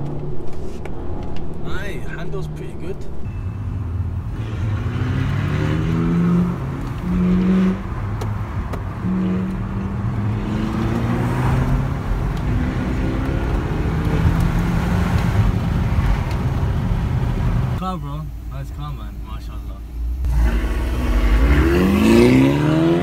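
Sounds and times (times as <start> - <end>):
car engine accelerating: 0.0 - 17.8, 20.0 - 23.0
road noise inside car: 0.0 - 23.0.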